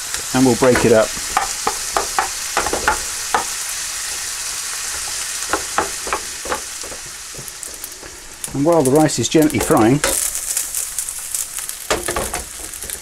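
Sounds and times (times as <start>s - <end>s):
rice sizzling in oil: 0.0s - 13.0s
utensil tapping and scraping pan: 0.2s - 10.6s, 11.9s - 13.0s.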